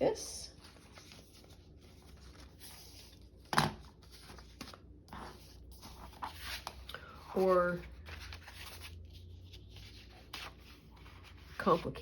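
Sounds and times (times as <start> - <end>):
paper sheets being handled: 0.5 - 12.0.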